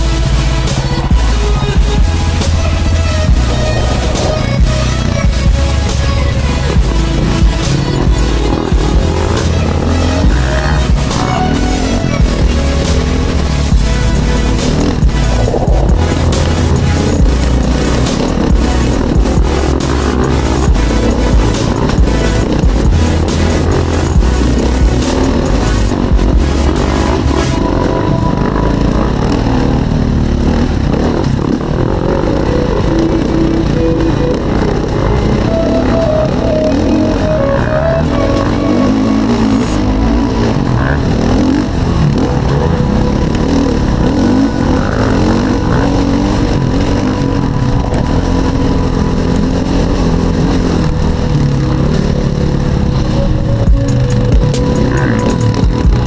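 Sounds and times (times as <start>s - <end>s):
background music: 0.0s - 56.0s
dirt bike engine running: 0.0s - 56.0s.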